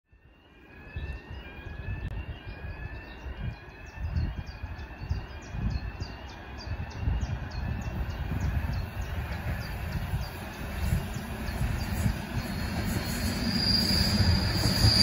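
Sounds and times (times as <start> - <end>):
low rumble of approaching train: 0.1 - 15.0
high rising chirp: 1.0 - 15.0.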